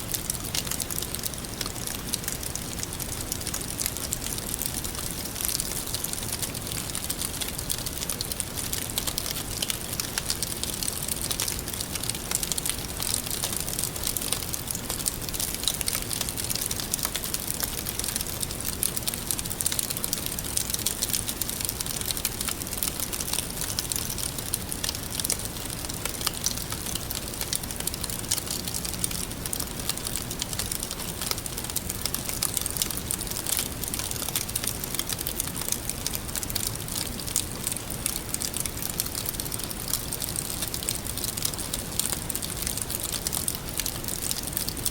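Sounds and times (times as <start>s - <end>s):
wood fire crackling: 0.1s - 44.9s.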